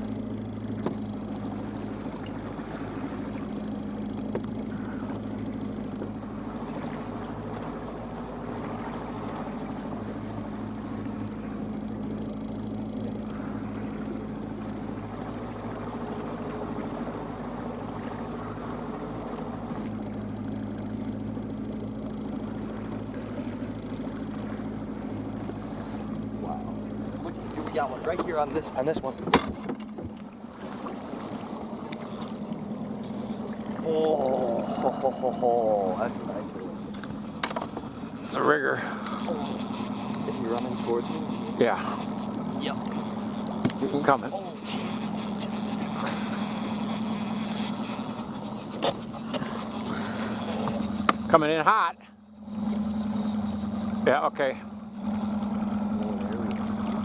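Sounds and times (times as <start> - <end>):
outboard motor humming: 0.0 - 57.0.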